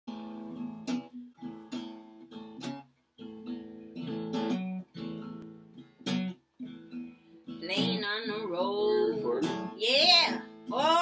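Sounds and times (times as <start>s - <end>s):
acoustic guitar strummed: 0.1s - 11.0s.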